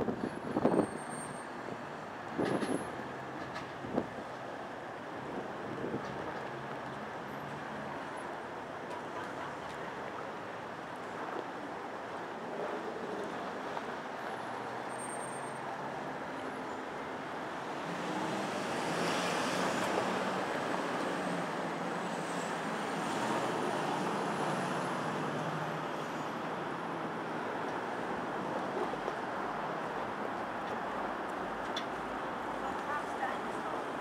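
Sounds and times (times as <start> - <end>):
road traffic roar: 0.0 - 34.0.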